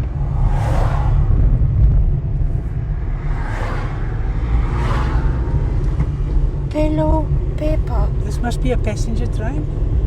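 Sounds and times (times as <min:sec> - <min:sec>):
car rumbling slowly: 0:00.0 - 0:10.0.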